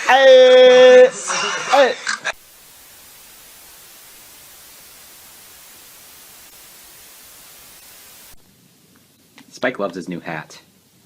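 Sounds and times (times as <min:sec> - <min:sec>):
steady static hiss: 0:00.0 - 0:11.0.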